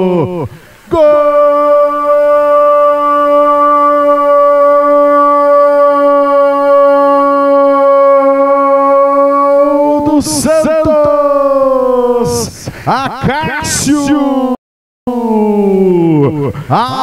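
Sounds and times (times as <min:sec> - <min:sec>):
commentator shouting: 0:00.9 - 0:16.0, 0:16.7 - 0:17.0.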